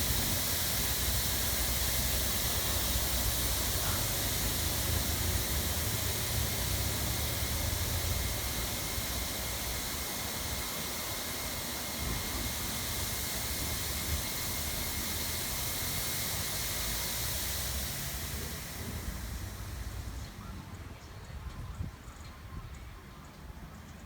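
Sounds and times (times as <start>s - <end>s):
high-pressure water jets spraying: 0.0s - 21.0s
low machine hum: 0.0s - 24.0s.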